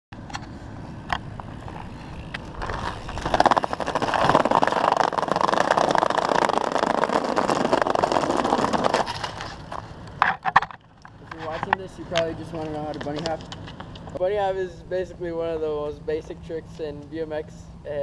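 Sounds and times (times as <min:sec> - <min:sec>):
bike rolling on concrete: 0:00.2 - 0:14.6.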